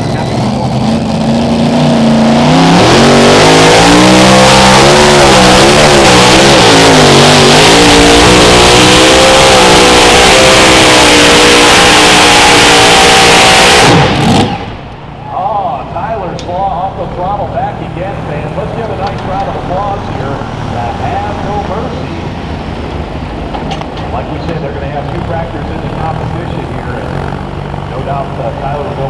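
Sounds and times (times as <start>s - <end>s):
tractor engine at full throttle: 0.0s - 29.0s.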